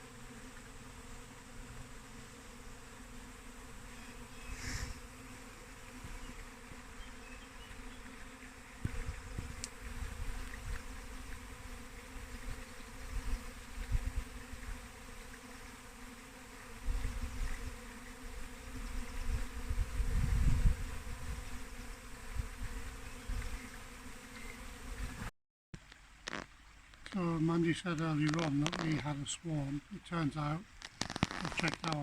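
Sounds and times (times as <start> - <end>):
honeybees buzzing: 0.0 - 25.3, 26.2 - 32.0.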